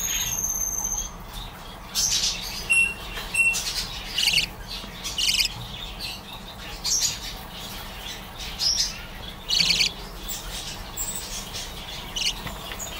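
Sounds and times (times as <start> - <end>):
bird chick chirping: 0.0 - 12.9.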